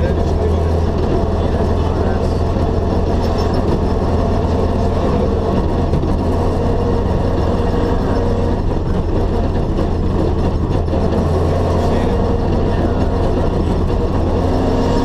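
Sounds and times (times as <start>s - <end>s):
car engine running steadily: 0.0s - 15.0s
road noise: 0.0s - 15.0s.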